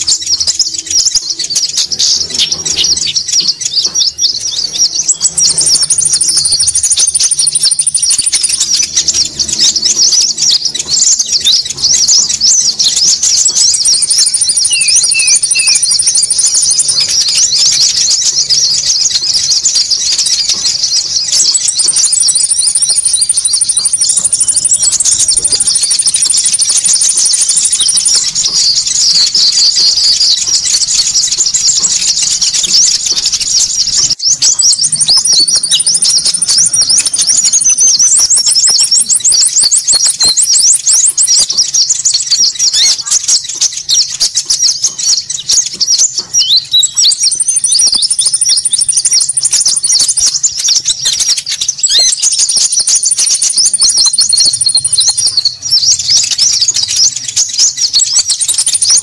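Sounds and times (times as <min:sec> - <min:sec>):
rapid bird trill: 0:00.0 - 0:59.0
small birds chattering: 0:00.0 - 0:59.0.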